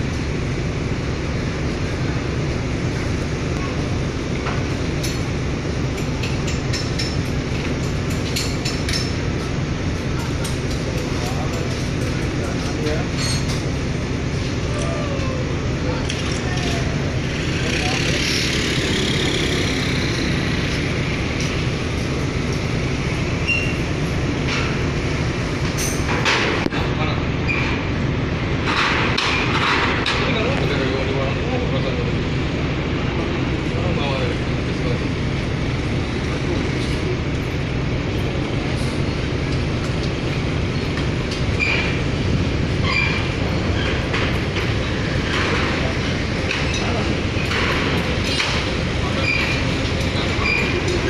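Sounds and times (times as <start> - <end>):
diesel engine low rumble: 0.0 - 51.0.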